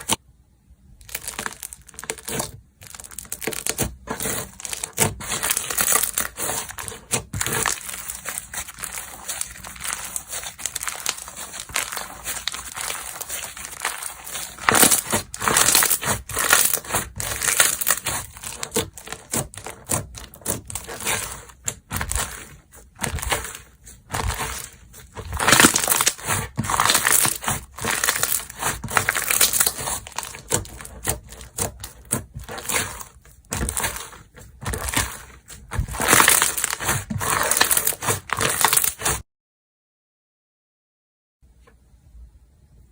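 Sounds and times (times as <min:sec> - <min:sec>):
slime popping and crackling: 0:01.0 - 0:39.2.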